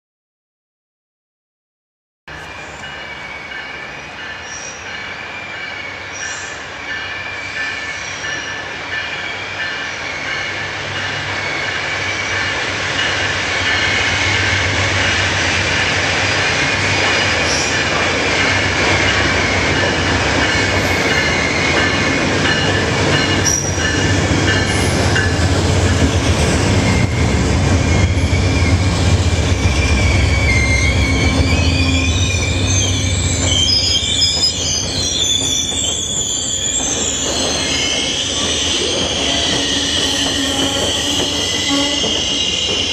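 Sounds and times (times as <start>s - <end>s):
train brakes squealing: 2.3s - 15.2s, 17.1s - 42.9s.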